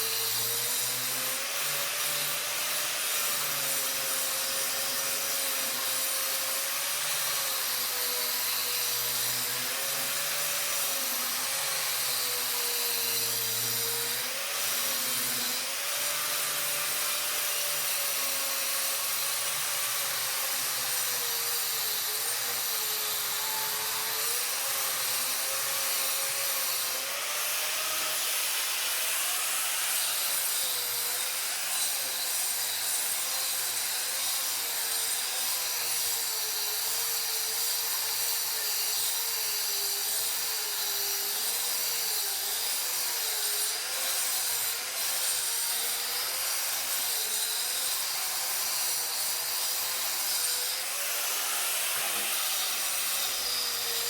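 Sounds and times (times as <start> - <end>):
power tool motor running: 0.0 - 54.0.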